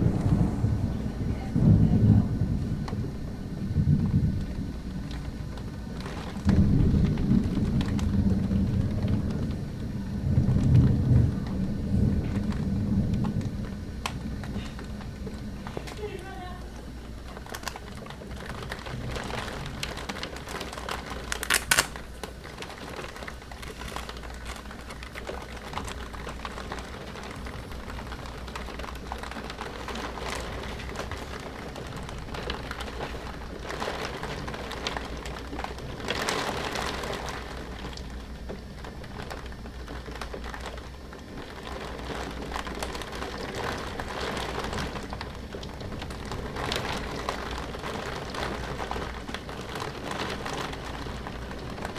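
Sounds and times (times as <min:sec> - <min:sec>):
rain beating on window glass: 0:00.0 - 0:51.9.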